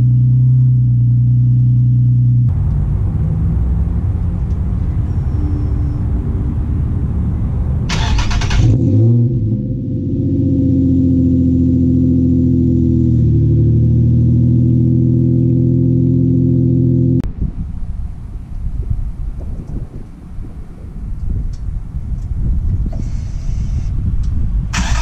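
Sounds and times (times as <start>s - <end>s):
car engine rumbling and idling: 0.0s - 25.0s.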